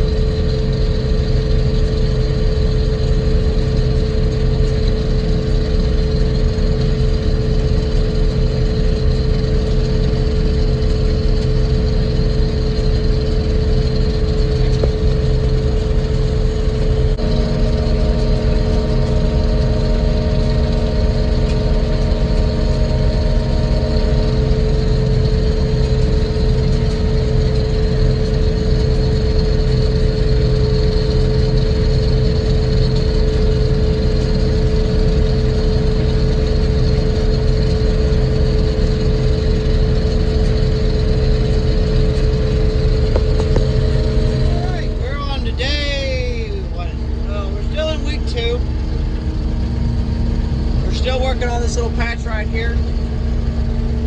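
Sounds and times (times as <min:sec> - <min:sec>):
combine harvester engine drone: 0:00.0 - 0:54.0
machinery whining: 0:00.0 - 0:54.0.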